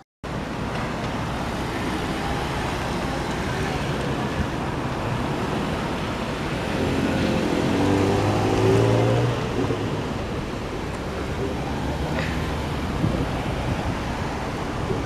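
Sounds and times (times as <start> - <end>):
cars passing over rail crossing: 0.3 - 15.0
vehicle engine hum: 0.3 - 15.0.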